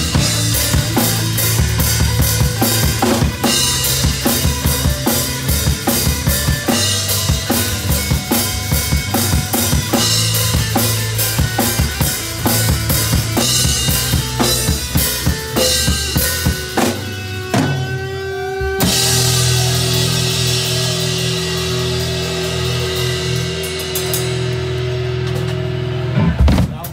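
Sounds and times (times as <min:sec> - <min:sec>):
rock band playing: 0:00.0 - 0:26.9.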